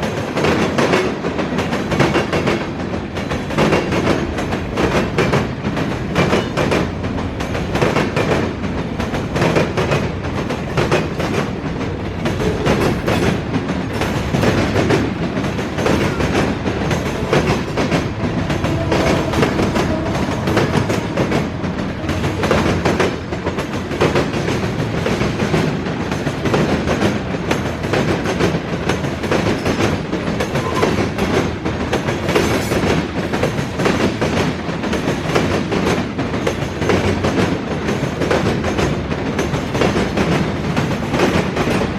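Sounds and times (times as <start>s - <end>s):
train rumble and rattle: 0.0s - 41.9s
train wheels clacking over rail joints: 0.0s - 41.9s.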